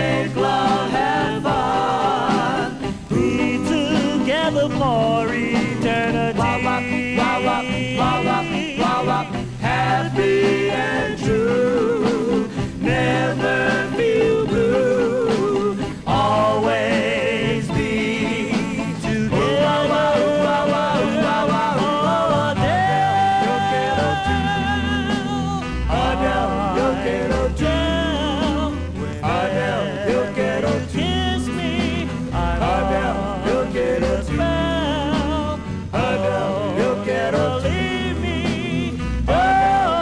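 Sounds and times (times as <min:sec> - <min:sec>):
upbeat vocal group dance song: 0:00.0 - 0:40.0.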